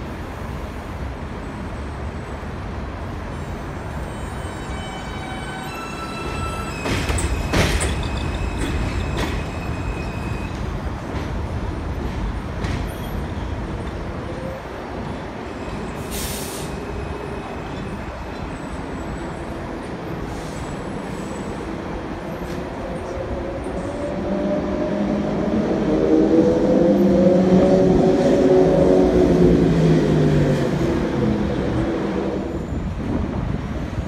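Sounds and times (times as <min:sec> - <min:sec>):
subway train rumbling: 0:00.0 - 0:34.0.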